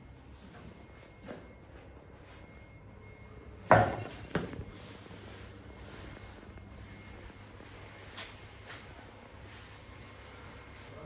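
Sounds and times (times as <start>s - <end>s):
low hum of pumps: 0.0s - 11.0s.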